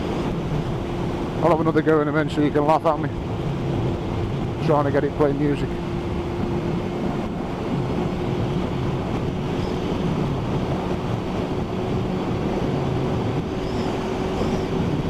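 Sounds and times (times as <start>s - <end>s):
motorcycle engine drone: 0.0s - 15.0s
rushing wind noise: 0.0s - 15.0s.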